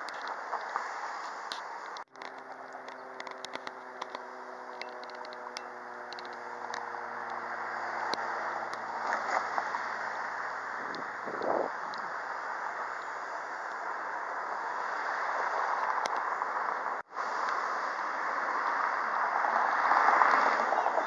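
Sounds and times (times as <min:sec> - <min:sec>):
street noise: 0:00.0 - 0:21.0.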